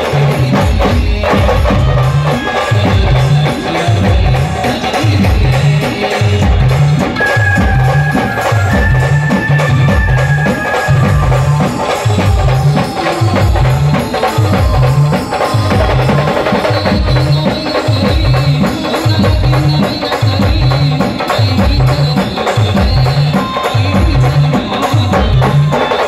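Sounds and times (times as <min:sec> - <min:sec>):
drums beaten with sticks: 0:00.0 - 0:26.0.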